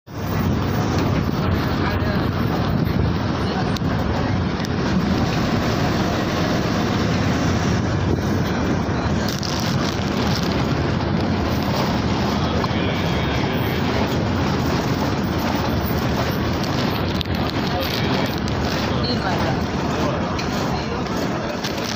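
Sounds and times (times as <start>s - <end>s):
bus engine drone: 0.1s - 21.9s
road and wind noise: 0.1s - 21.9s.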